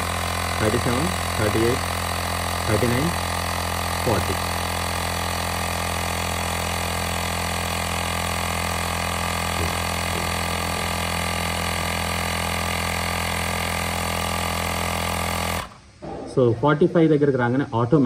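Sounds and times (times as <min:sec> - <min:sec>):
electric air compressor running: 0:00.0 - 0:16.0.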